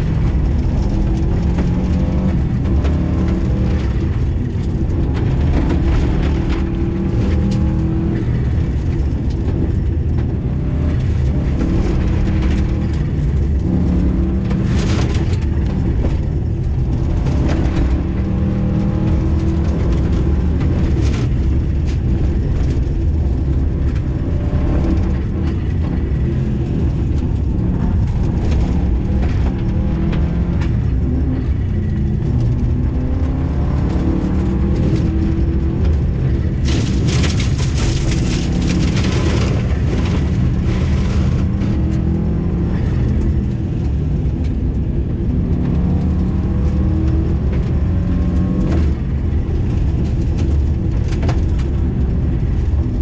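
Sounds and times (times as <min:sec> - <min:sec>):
rally car engine revving: 0:00.0 - 0:53.0
stones clicking on car: 0:00.0 - 0:53.0
tyre and road noise: 0:00.0 - 0:53.0.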